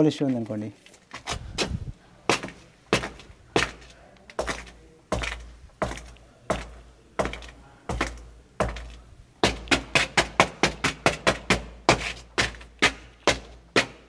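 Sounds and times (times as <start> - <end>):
footsteps in hard shoes: 0.2 - 14.0.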